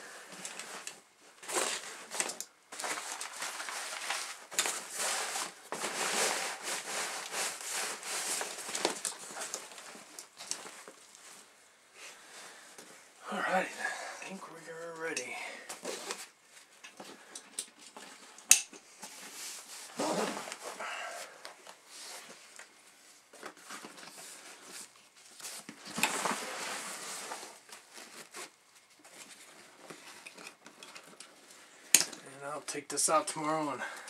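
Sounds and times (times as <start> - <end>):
backpack fabric and straps rustling: 0.1 - 18.4, 19.0 - 32.3.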